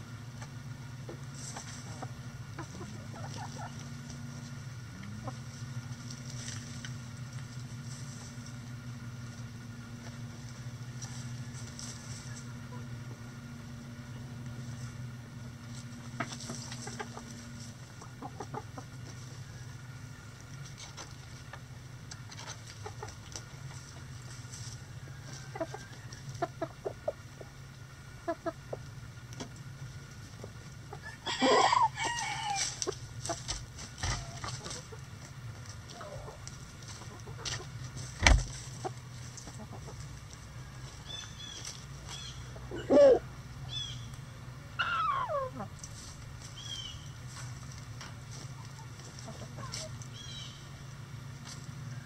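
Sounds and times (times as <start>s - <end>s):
chickens clucking: 0.0s - 52.0s
drawn-out chicken call: 1.4s - 29.2s, 29.8s - 47.4s, 48.4s - 51.0s.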